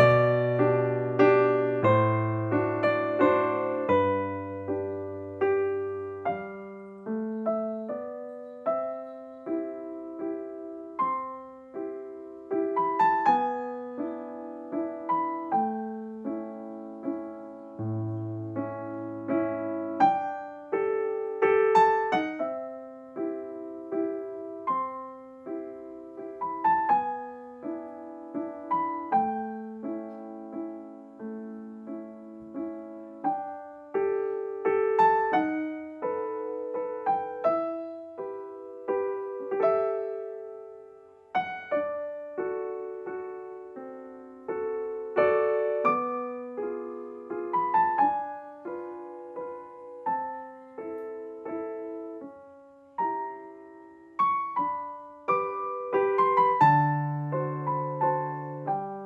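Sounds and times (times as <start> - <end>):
slow gentle piano music: 0.0 - 59.0.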